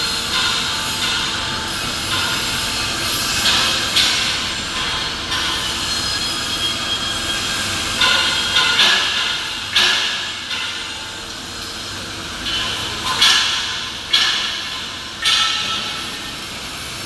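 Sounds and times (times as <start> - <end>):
workshop mechanical rumble: 0.0 - 17.0.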